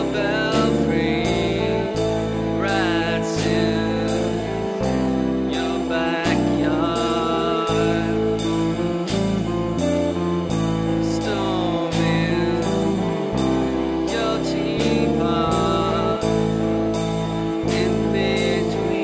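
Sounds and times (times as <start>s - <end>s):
song with guitar and bass: 0.0s - 19.0s.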